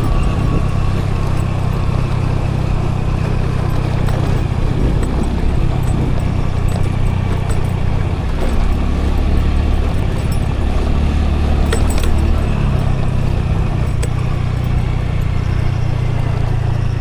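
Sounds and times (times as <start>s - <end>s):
light rattling clicks: 0.0s - 17.0s
road and wind noise: 0.0s - 17.0s
scooter engine running: 0.0s - 17.0s.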